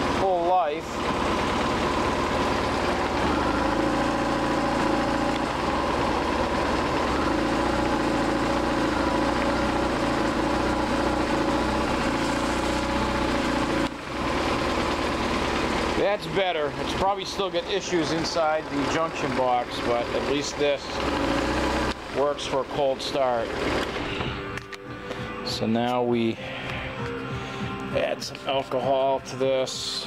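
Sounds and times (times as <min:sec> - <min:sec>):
motorcycle engine idling: 0:00.0 - 0:25.7.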